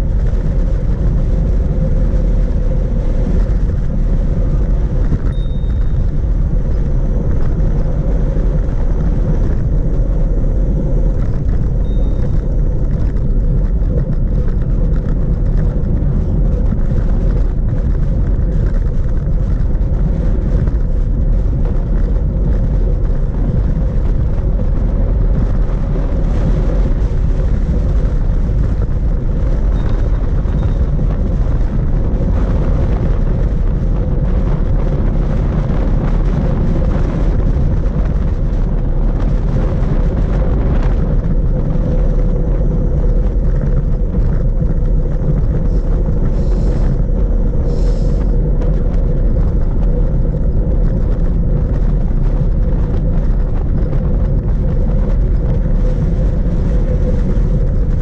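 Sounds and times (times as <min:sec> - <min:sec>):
bicycle tyre noise on road: 0:00.0 - 0:58.0
wind buffeting microphone: 0:00.0 - 0:58.0.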